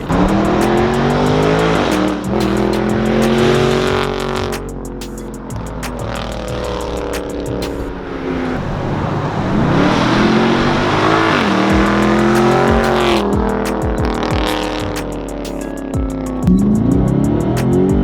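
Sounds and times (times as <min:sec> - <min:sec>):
car exhaust accelerating hard: 0:00.0 - 0:18.0.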